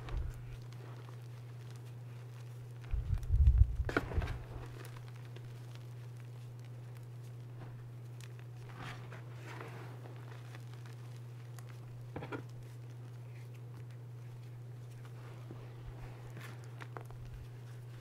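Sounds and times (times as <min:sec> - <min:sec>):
fingers crunching chalk powder: 0:00.0 - 0:18.0
low hum: 0:00.0 - 0:18.0.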